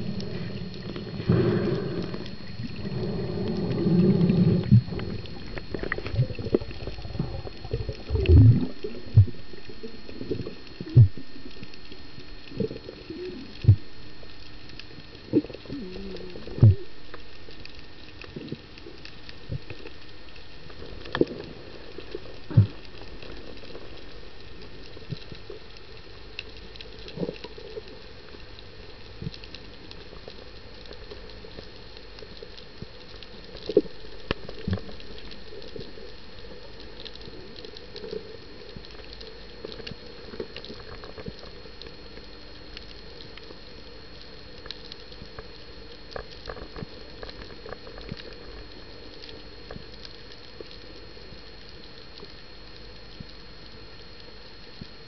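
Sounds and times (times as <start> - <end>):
underwater crackle and clicks: 0.0 - 55.0.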